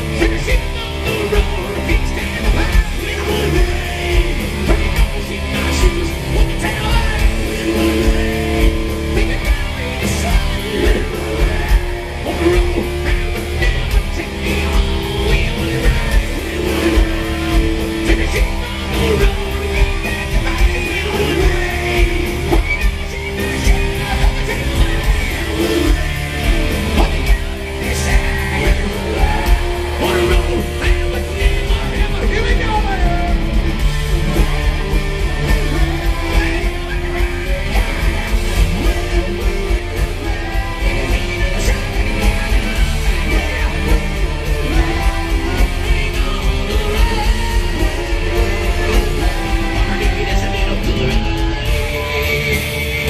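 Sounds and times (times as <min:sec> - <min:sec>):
bass guitar: 0:00.0 - 0:53.0
drum kit: 0:00.0 - 0:53.0
electric guitars: 0:00.0 - 0:53.0
person singing: 0:00.0 - 0:53.0.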